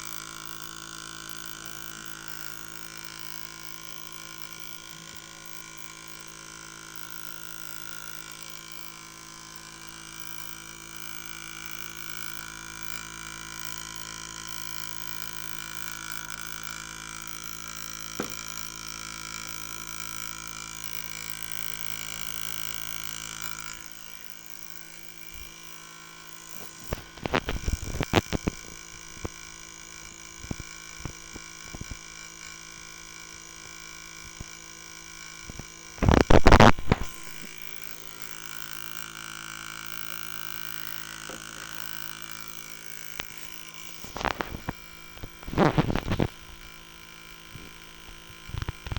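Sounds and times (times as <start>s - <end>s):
crackling electrical buzz: 0.0s - 48.9s
electrical hum: 0.0s - 48.9s.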